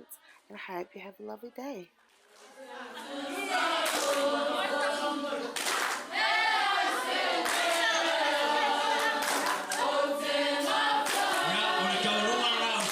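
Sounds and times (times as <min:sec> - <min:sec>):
choir singing in harmony: 0:02.5 - 0:12.9.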